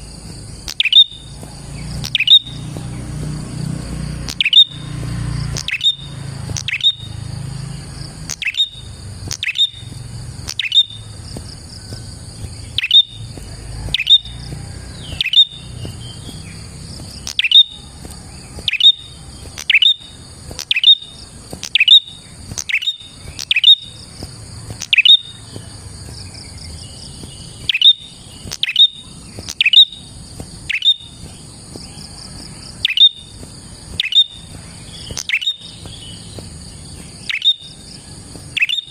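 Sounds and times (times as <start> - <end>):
steady high buzz: 0.0 - 38.9
bird sharp chip calls: 0.6 - 7.4, 8.1 - 38.9.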